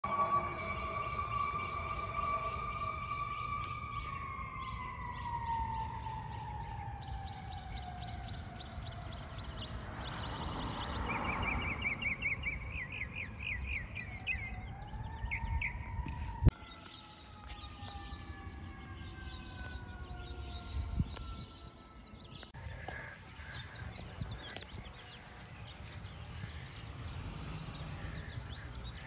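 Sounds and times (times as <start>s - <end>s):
birds chirping: 0.0s - 29.0s
emergency siren wailing: 0.0s - 29.0s.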